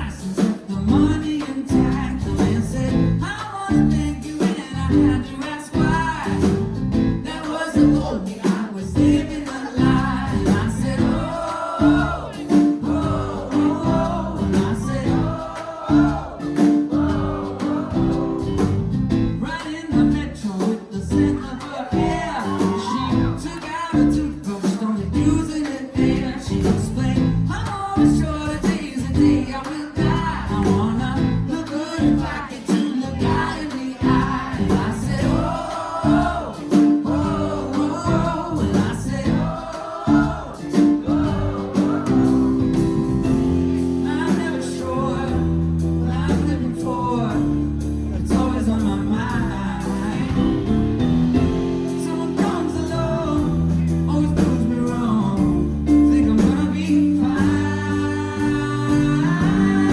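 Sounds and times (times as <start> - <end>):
live band music: 0.0 - 59.9
person singing: 7.2 - 50.7, 51.9 - 59.9.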